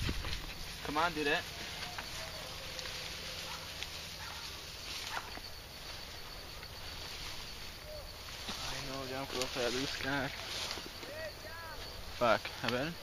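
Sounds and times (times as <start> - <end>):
footsteps rustling through grass: 0.0 - 13.0.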